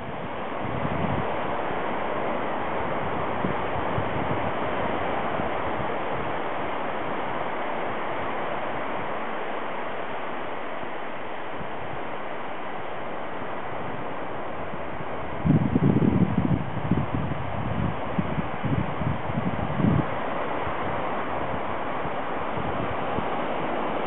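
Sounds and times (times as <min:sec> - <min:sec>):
surf rushing: 0:00.0 - 0:24.0
wind: 0:00.0 - 0:24.0.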